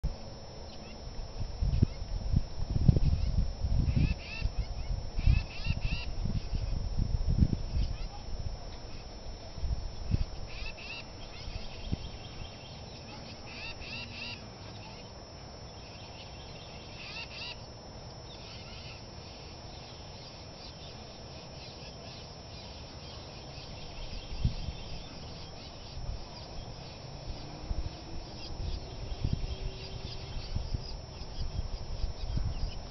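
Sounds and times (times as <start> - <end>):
small birds chirping: 0.3 - 9.2, 9.9 - 32.9.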